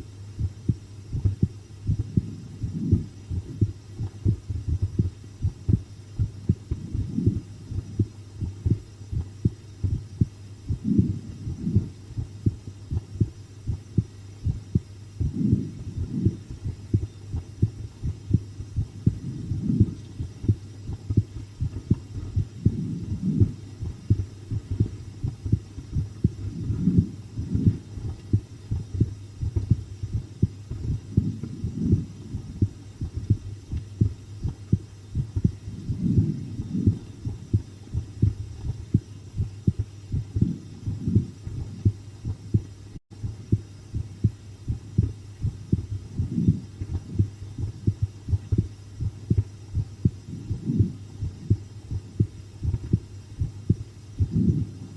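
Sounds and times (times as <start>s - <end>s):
heartbeat thuds: 0.0s - 54.9s
steady low hum: 0.0s - 54.9s.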